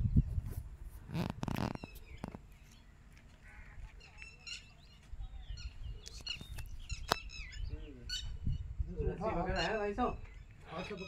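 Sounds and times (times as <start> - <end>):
birds chirping: 1.0 - 11.0.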